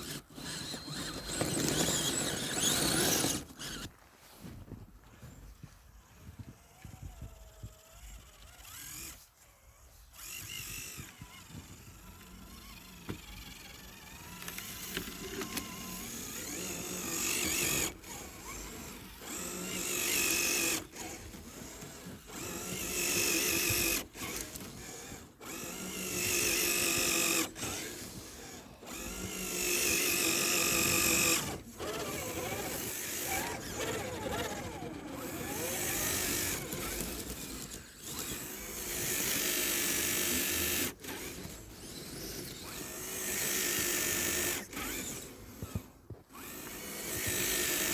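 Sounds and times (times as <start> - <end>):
electric motor whining: 0.0 - 3.9, 5.4 - 47.9.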